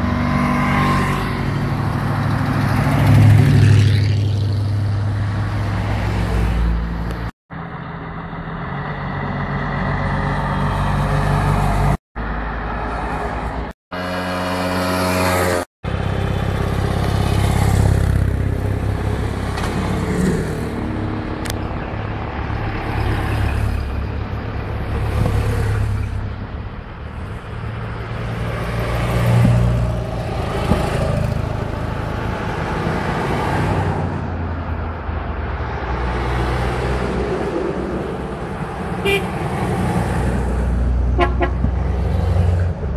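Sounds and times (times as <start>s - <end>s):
cars driving past: 0.0s - 42.9s.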